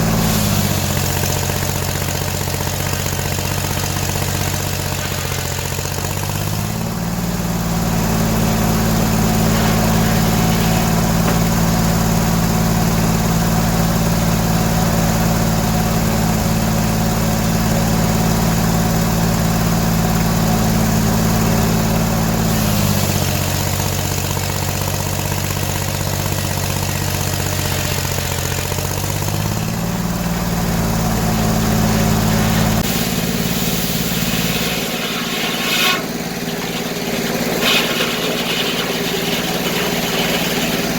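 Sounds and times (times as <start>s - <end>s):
engine powering circular sawmill: 0.0s - 40.9s.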